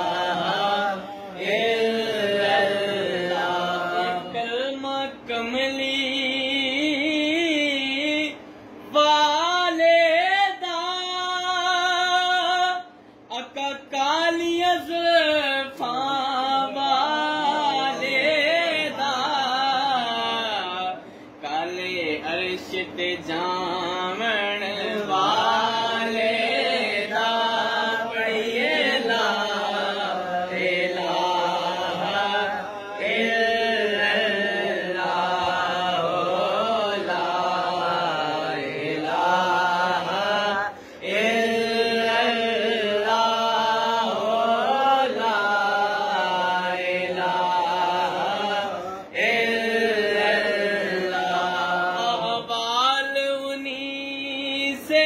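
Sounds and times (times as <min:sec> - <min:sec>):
men chanting a hymn: 0:00.0 - 0:55.0.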